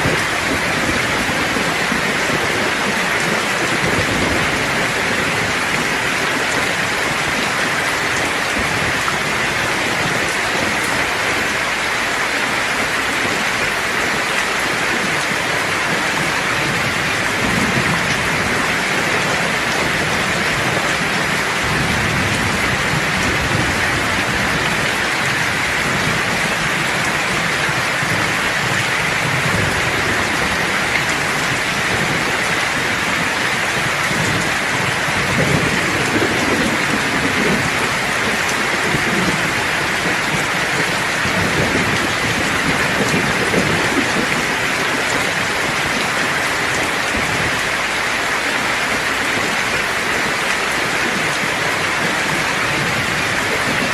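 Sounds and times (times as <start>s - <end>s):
low thunder rumbles: 0.0s - 48.0s
heavy rain falling: 0.0s - 53.9s.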